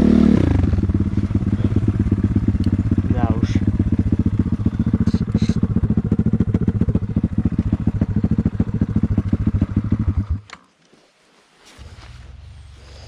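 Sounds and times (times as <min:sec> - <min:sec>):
vehicle engine idling: 0:00.0 - 0:10.5.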